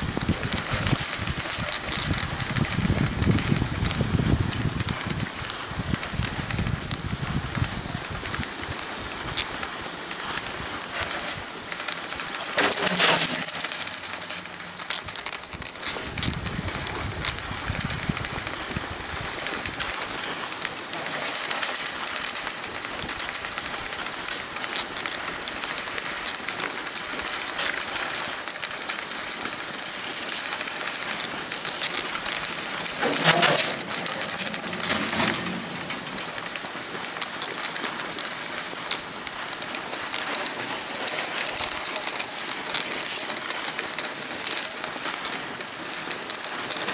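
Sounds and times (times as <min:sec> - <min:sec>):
loud clatter: 0:00.0 - 0:46.9
ski tow rattle: 0:00.0 - 0:46.9.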